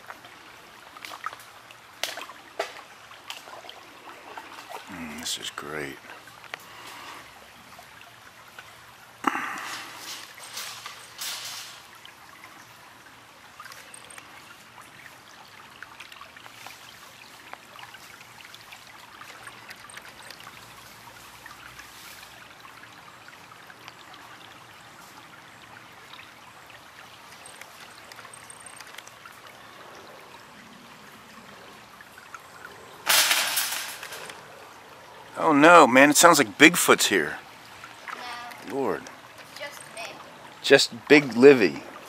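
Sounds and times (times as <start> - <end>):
stream trickling over rocks: 0.0 - 42.0.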